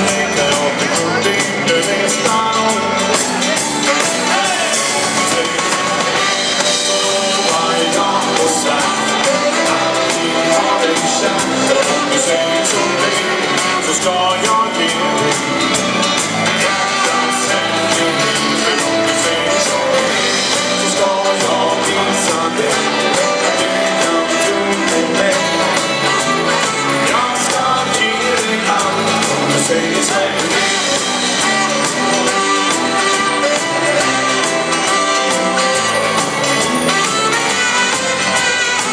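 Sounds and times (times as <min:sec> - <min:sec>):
live band playing dance music: 0:00.0 - 0:38.9
steady drum beat: 0:00.0 - 0:38.9.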